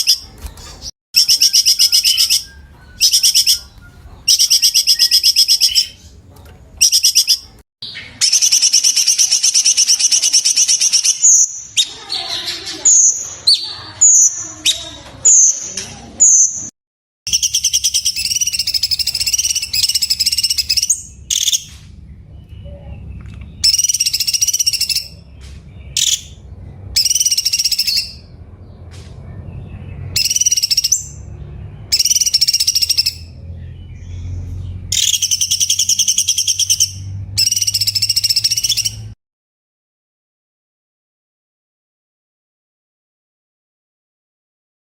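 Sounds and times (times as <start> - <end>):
bird singing trilled phrases: 0.0 - 16.7, 17.3 - 28.8, 29.6 - 39.2.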